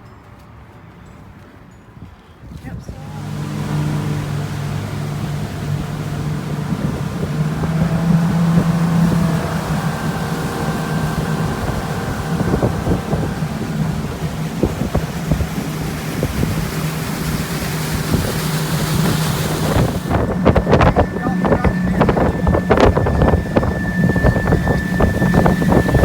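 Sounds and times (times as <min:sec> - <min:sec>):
wind rushing over microphone: 0:02.4 - 0:26.0
boat motor humming: 0:02.8 - 0:26.0.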